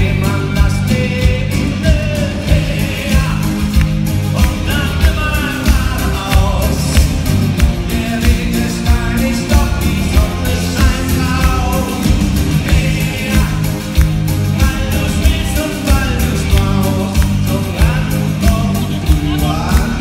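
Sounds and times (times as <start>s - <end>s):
acoustic guitar: 0.0s - 20.0s
drums keeping a steady beat: 0.0s - 20.0s
electric guitar: 0.0s - 20.0s
keyboard: 0.0s - 20.0s
person singing: 0.0s - 20.0s.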